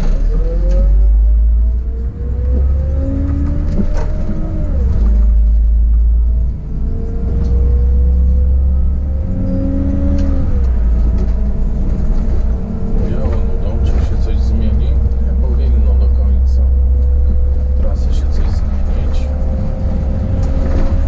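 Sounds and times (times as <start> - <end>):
bus engine rumble: 0.0 - 21.0
drivetrain whine rising: 0.0 - 21.0.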